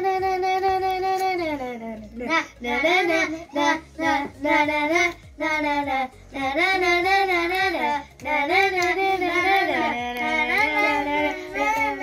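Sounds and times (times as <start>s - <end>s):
boy singing: 0.0s - 12.0s.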